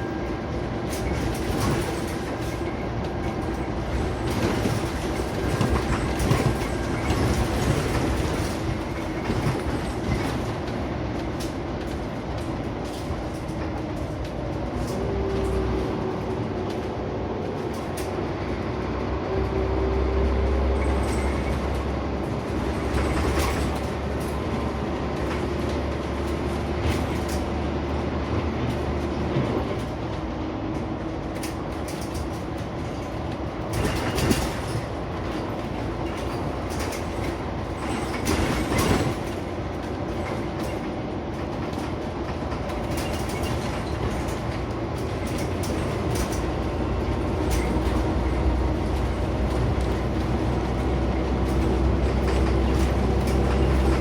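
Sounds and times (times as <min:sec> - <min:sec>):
bus engine running under load: 0:00.0 - 0:54.0
road rumble: 0:00.0 - 0:54.0.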